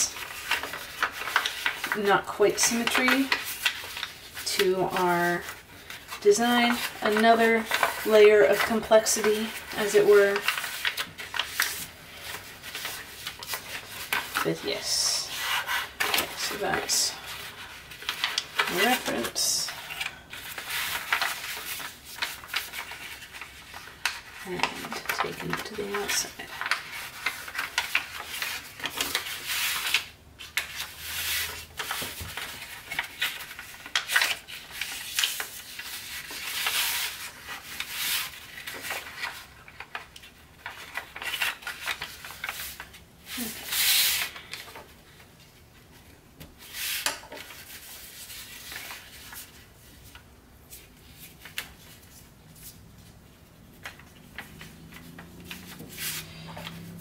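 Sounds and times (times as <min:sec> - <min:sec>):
paper rustling and crinkling: 0:00.0 - 0:57.0.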